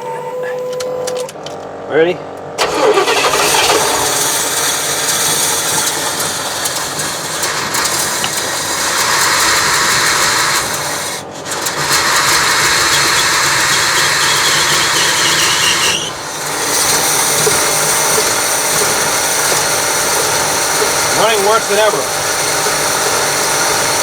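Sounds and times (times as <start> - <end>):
engine running rough: 0.0 - 24.0.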